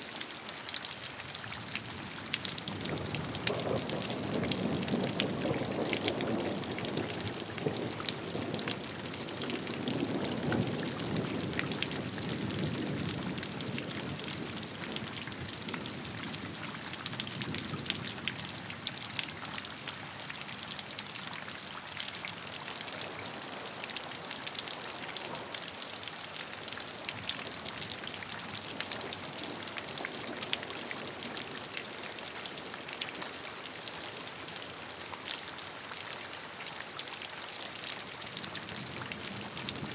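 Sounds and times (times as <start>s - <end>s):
rain drops ticking: 0.0s - 39.9s.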